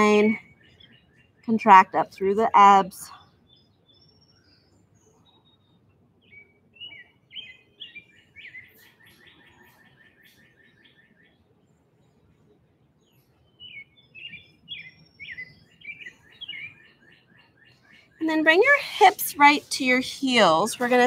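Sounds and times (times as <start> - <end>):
songbird chirping and trilling: 0.0 - 21.0.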